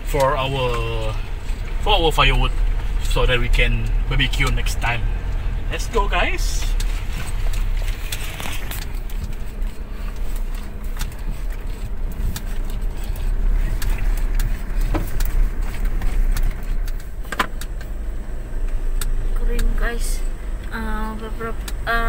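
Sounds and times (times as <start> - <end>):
rattles and clicks: 0.0 - 18.0
car rumbling on rough road: 0.0 - 22.0.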